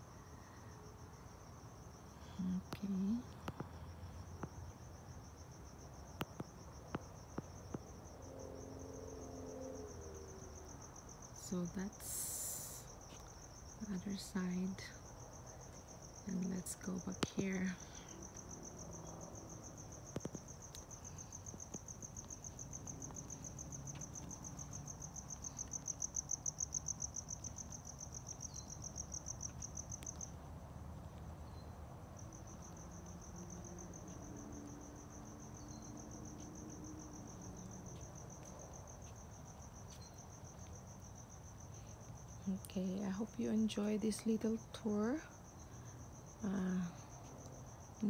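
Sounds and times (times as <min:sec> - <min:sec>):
crickets chirping: 0:00.0 - 0:48.0.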